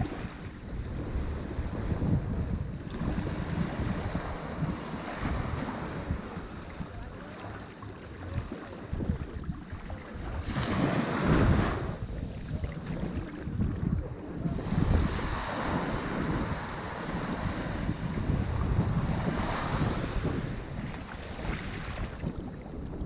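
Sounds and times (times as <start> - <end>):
wave breaking: 2.9 - 22.6
ocean surf washing onto shore: 3.0 - 22.4.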